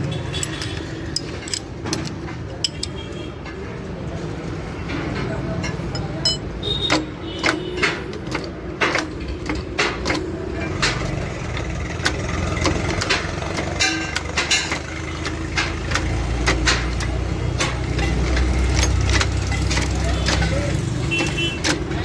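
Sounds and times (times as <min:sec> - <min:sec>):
sharp knocks and clinks: 0:00.0 - 0:03.8, 0:04.7 - 0:22.0.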